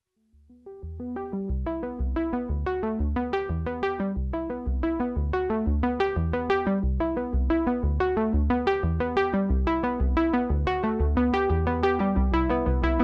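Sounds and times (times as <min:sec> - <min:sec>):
synthesizer keyboard tune: 0:00.6 - 0:13.0.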